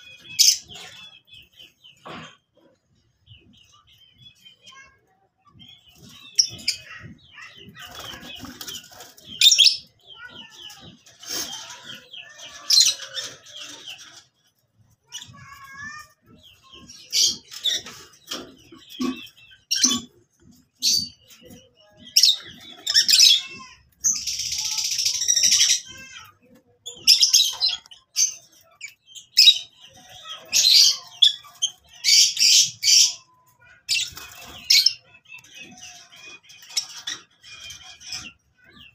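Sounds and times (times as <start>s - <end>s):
lovebirds chirping and squeaking: 0.0s - 38.9s.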